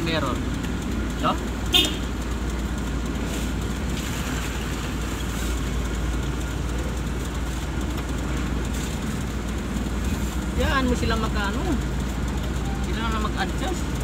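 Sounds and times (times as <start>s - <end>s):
truck engine and road rumble: 0.0s - 14.0s.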